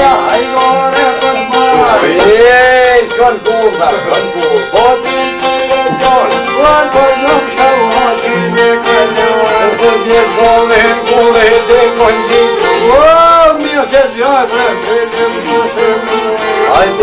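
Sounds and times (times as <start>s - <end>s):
plucked lutes: 0.0s - 17.0s
violin melody: 0.0s - 17.0s.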